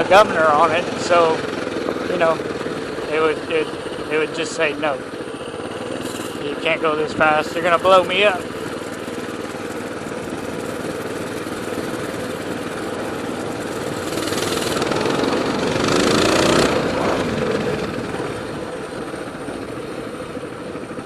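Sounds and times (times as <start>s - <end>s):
mini bike engine revving: 0.0s - 21.0s.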